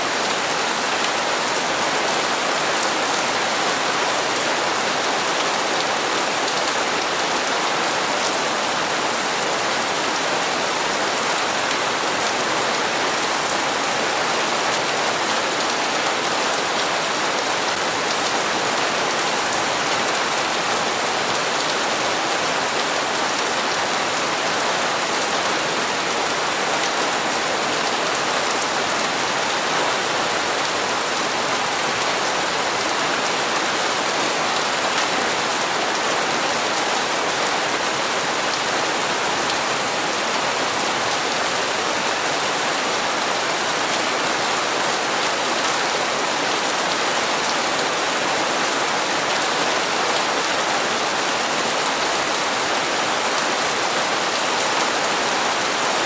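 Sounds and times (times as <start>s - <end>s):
rain on hard surfaces: 0.0s - 56.0s.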